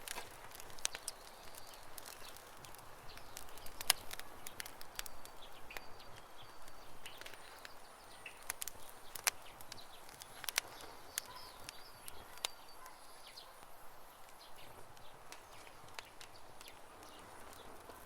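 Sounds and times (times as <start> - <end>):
birds chirping faintly: 0.0 - 18.0
campfire crackling and popping: 0.0 - 18.0.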